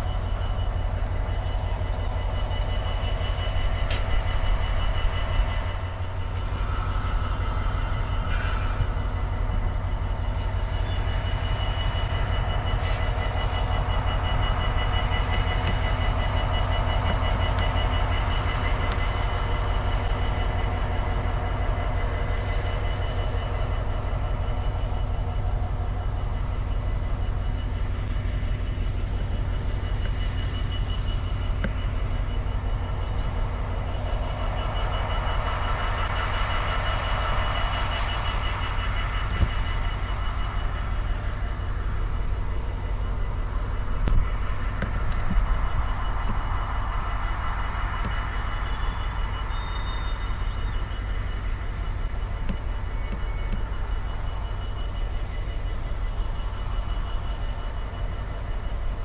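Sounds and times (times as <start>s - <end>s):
diesel locomotive engine rumble: 0.0s - 59.0s
thin high whine: 0.0s - 59.0s
wheel and rail noise: 0.0s - 59.0s.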